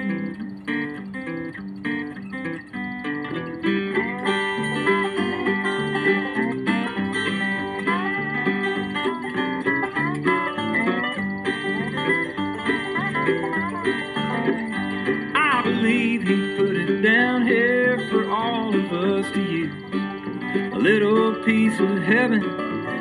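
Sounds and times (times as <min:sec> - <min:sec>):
acoustic guitar strumming: 0:00.0 - 0:23.0
picked lead guitar melody: 0:00.0 - 0:23.0.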